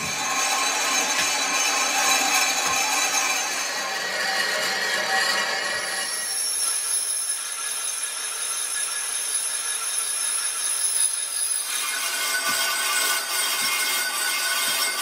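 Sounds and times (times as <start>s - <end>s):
lathe tool cutting metal: 0.0s - 15.0s.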